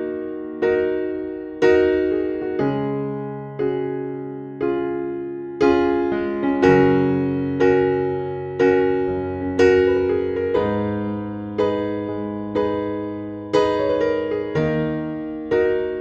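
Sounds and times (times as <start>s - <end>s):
electric piano chords: 0.0s - 16.0s.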